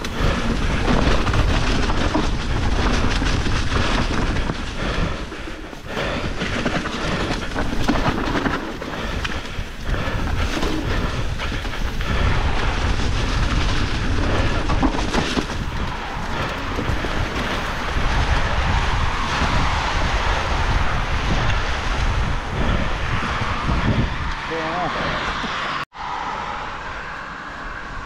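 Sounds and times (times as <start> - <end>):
bike rumbling and rattling: 0.0 - 25.8
wind on microphone: 0.0 - 28.0.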